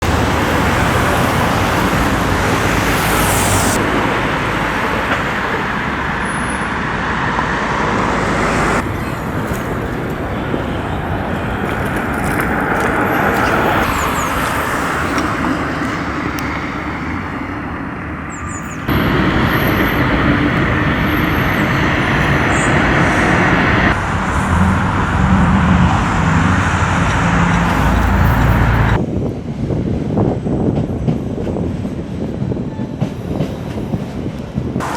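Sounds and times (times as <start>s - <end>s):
train running noise: 0.0s - 34.9s.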